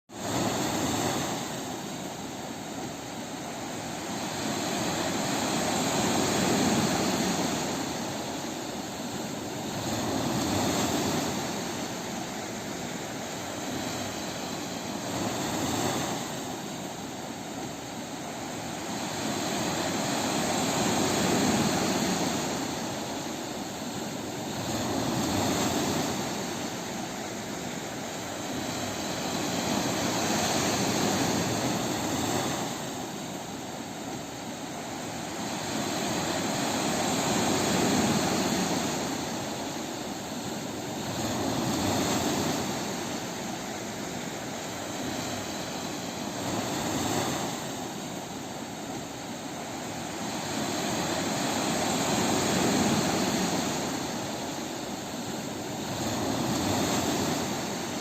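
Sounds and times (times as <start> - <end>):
waves breaking on a beach: 0.1 - 58.0.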